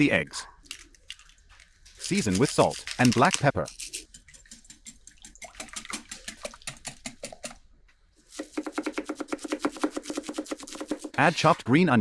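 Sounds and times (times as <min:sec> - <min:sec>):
egg batter being whisked: 0:02.0 - 0:11.6.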